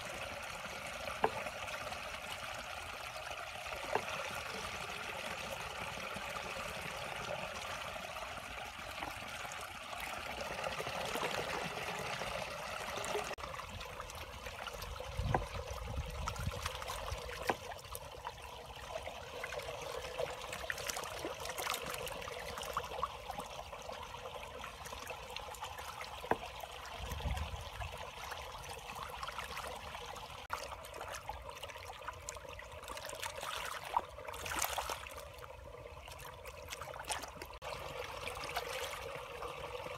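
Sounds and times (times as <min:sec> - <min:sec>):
water trickling in a ditch: 0:00.0 - 0:39.9.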